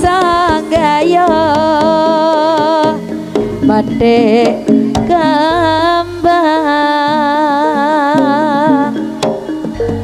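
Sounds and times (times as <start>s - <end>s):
low drum beats: 0.0s - 6.5s, 8.1s - 10.0s
percussion strikes: 0.0s - 10.0s.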